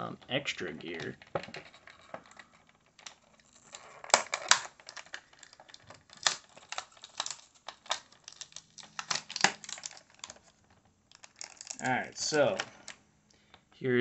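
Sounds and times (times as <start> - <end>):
plastic blister tray crackling: 0.2 - 13.7.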